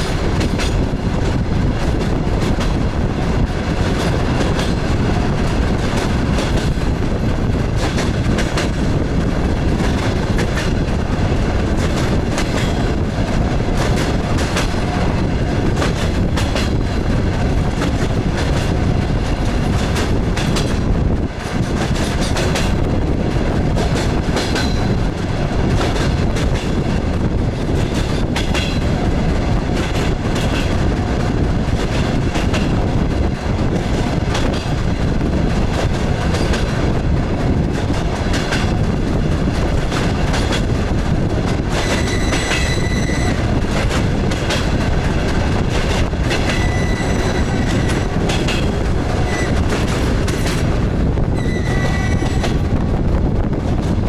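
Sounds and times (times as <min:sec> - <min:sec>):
wheels clacking over rail joints: 0:00.0 - 0:52.8
train running rumble: 0:00.0 - 0:54.0.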